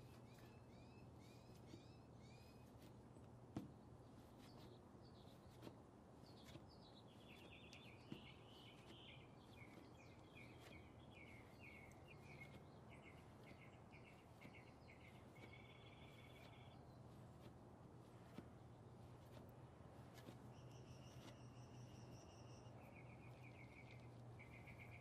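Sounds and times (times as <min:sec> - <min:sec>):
songbird chirps and trills: 0:00.0 - 0:25.0.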